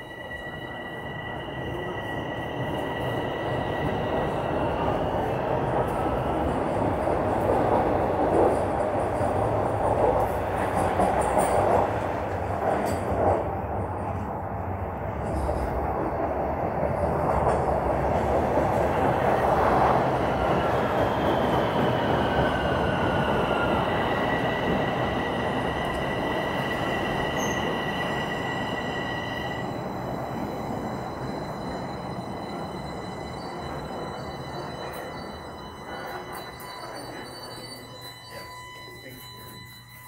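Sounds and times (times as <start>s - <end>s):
subway train running: 0.0s - 40.0s.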